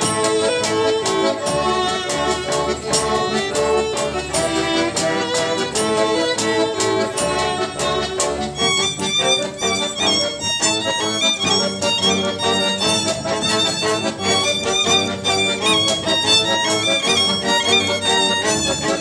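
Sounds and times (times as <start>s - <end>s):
accordion: 0.0s - 19.0s
double bass: 0.0s - 19.0s.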